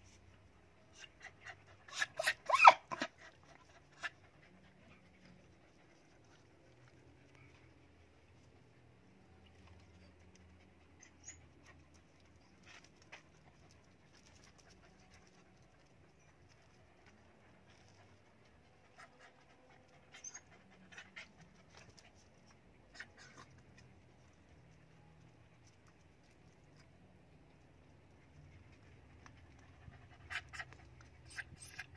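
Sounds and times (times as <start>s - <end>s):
small dogs panting: 0.2s - 26.6s, 27.6s - 31.9s.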